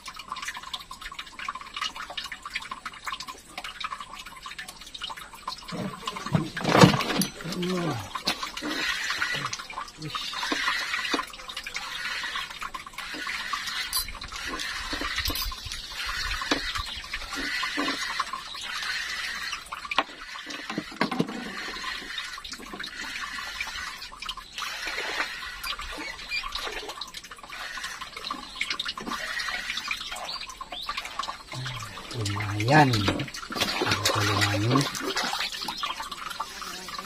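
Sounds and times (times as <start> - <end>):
river water splashing and trickling: 0.0 - 37.0.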